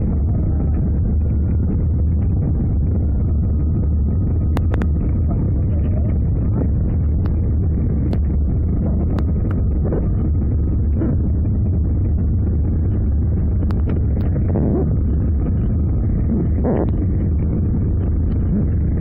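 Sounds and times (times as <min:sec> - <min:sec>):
muffled aircraft cabin rumble: 0:00.0 - 0:19.0.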